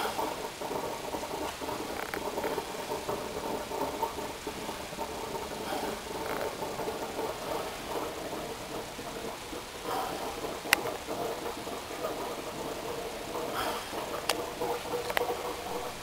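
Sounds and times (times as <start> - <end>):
steam locomotive rumbling and hissing: 0.0 - 16.0.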